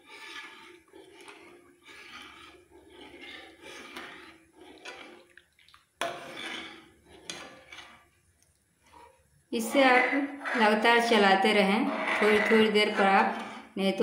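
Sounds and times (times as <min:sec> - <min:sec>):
ladle scraping against pan: 0:00.0 - 0:05.3, 0:06.0 - 0:08.2, 0:08.8 - 0:13.8
ladle stirring milk in a pan: 0:00.0 - 0:14.0.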